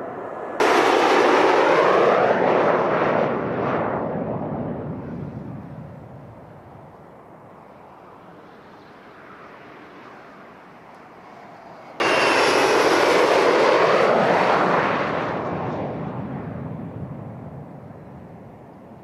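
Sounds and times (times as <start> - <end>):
jet roaring past: 0.0 - 18.9
distant jet rumble: 0.0 - 19.0.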